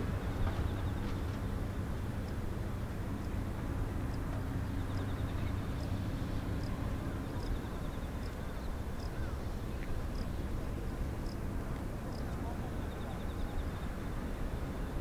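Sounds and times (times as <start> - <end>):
distant jet engine rumble: 0.0 - 15.0.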